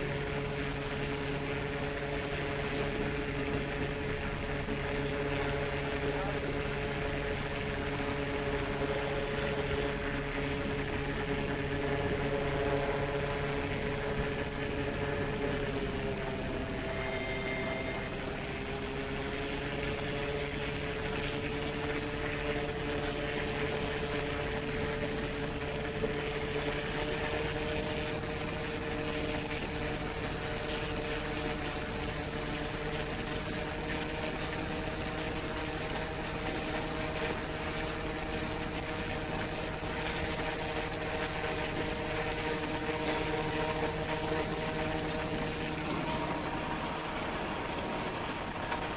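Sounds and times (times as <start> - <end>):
paramotor engine and propeller: 0.0 - 48.9.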